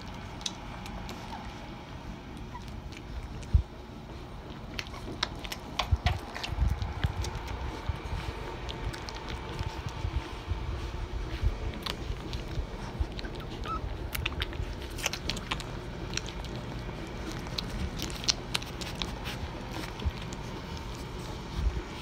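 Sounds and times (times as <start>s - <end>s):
puppies sucking and smacking: 0.0s - 22.0s.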